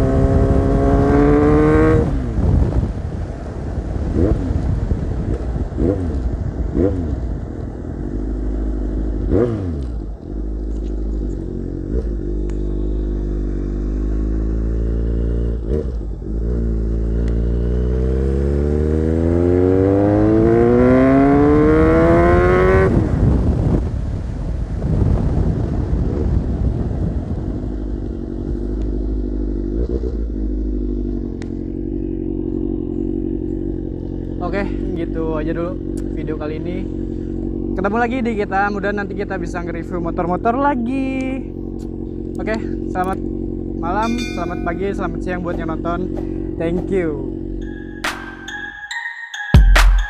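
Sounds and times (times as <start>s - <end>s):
motorcycle engine revving: 0.0s - 48.6s.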